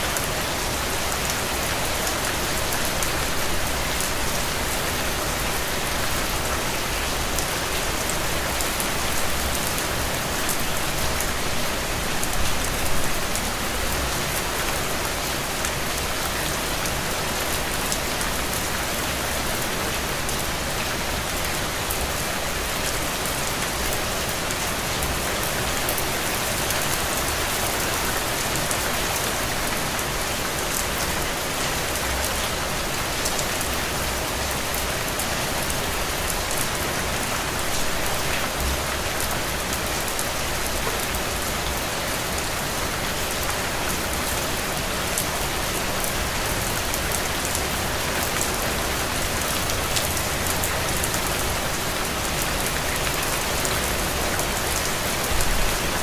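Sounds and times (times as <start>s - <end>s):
heavy rain on ground and puddles: 0.0s - 56.0s.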